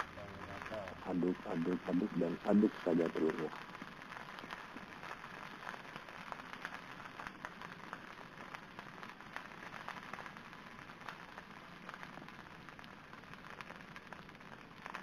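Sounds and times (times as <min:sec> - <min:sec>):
egg sizzling: 0:00.0 - 0:15.0.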